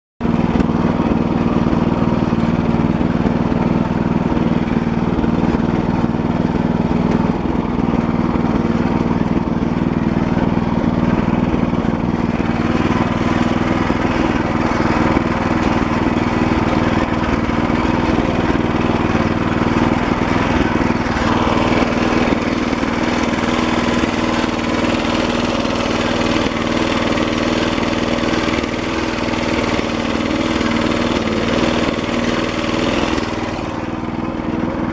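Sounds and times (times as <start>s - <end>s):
tractor engine running: 0.2s - 34.9s.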